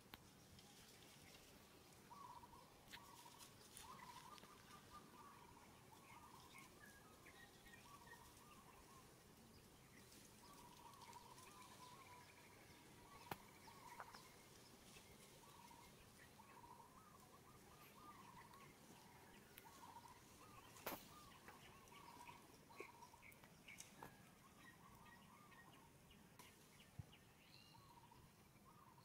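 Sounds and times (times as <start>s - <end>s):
distant birds warbling: 0.3s - 29.0s.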